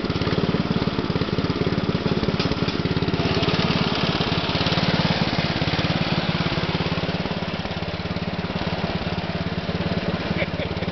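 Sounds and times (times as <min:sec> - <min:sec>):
single-cylinder engine running: 0:00.0 - 0:10.9.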